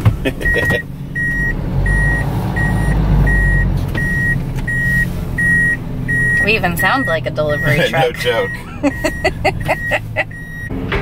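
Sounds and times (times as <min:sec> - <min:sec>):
truck backup alarm beeping: 0:00.0 - 0:10.9
truck engine running: 0:00.0 - 0:11.0.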